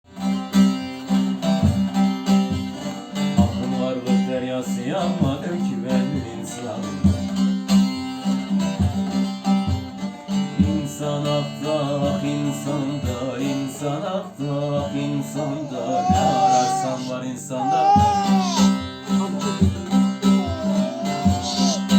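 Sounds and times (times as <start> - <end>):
plucked string instrument melody: 0.1 - 21.9.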